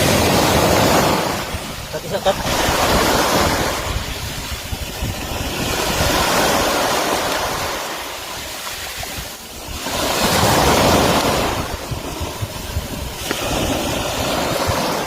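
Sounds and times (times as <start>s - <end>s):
surf washing in and out: 0.0s - 15.0s
wind rumbling on microphone: 0.0s - 15.0s.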